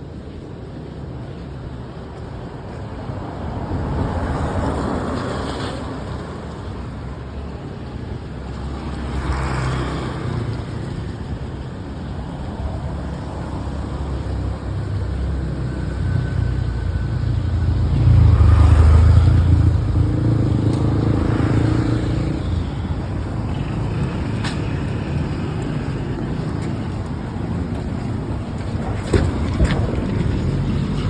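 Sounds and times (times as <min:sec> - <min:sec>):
steady low traffic rumble: 0:00.0 - 0:31.0
vehicles passing by: 0:00.0 - 0:31.0.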